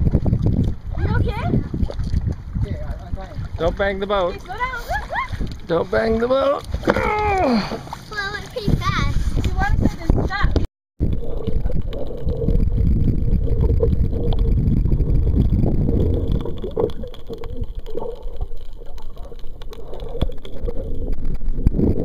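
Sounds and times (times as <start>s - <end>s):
faint underwater clicks and knocks: 0.0s - 22.0s
underwater rumbling of water: 0.0s - 22.0s.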